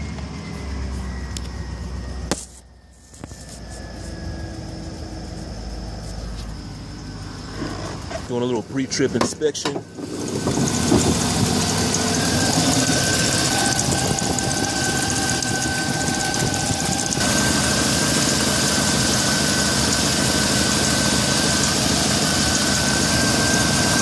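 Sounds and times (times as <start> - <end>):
constant high whine: 0.0 - 24.0
truck engine idling: 0.0 - 24.0.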